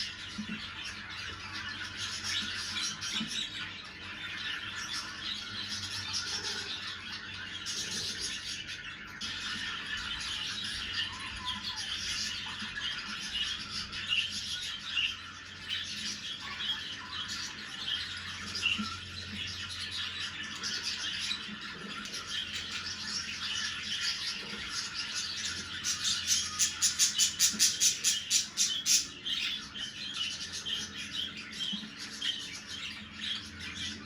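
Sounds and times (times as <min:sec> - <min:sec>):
budgerigars chattering: 0:00.0 - 0:34.0.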